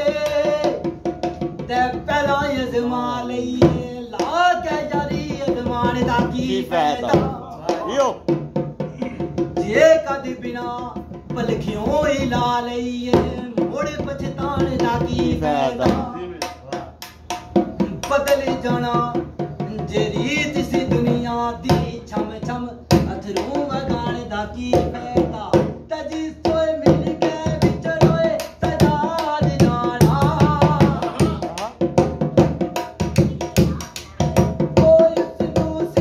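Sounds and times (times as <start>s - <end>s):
barrel drum rhythm: 0.0s - 36.0s
man singing: 0.0s - 36.0s.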